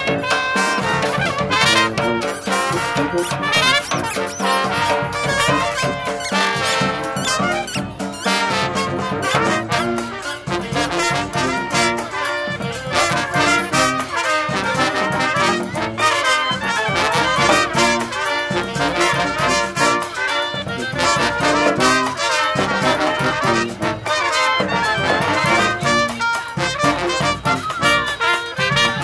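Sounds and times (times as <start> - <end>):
brass band playing upbeat tune: 0.0 - 29.0
snare and bass drum beat: 0.0 - 29.0.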